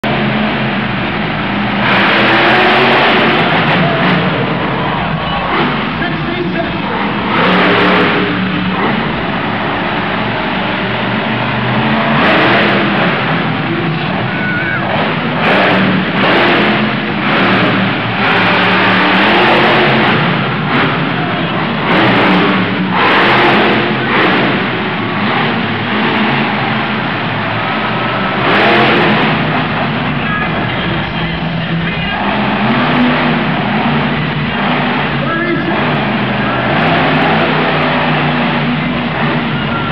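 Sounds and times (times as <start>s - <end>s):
monster truck engine revving: 0.0s - 39.9s.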